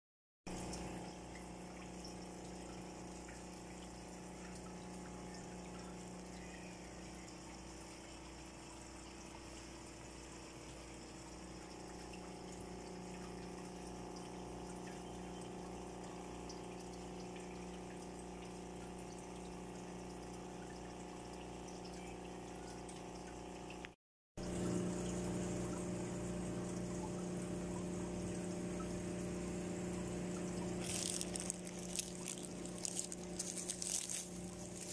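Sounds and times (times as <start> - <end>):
flowing water: 0.5 - 34.9
water pump humming: 0.5 - 34.9.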